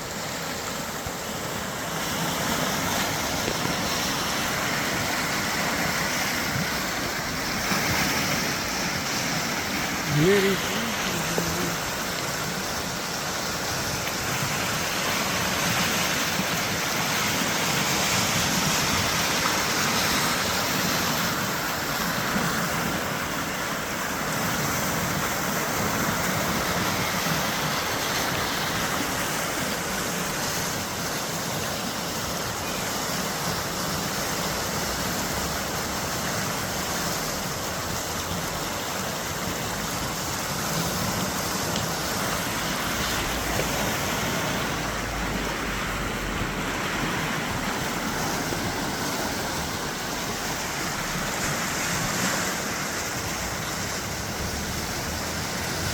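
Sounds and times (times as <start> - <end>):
river rushing: 0.0 - 55.9.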